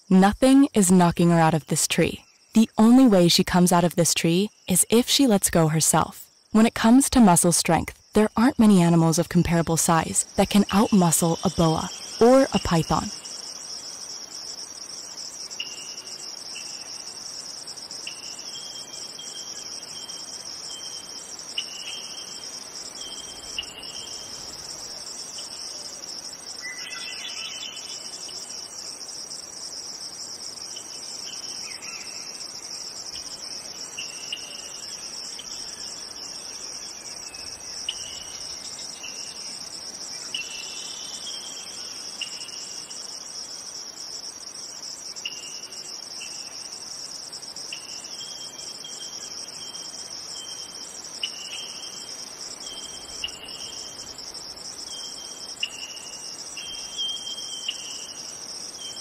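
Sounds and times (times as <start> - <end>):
insect chirps: 0.0 - 59.0
insects trilling: 0.0 - 59.0.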